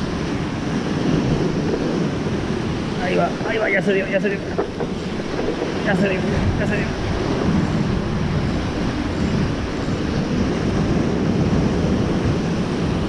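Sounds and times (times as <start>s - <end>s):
sea rushing: 0.0s - 13.0s
wind rumbling on microphone: 0.0s - 13.0s.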